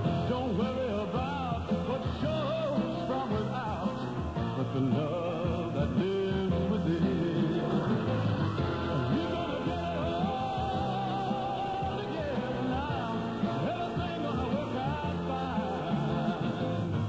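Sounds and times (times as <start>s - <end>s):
rock and roll record on radio: 0.0s - 17.0s.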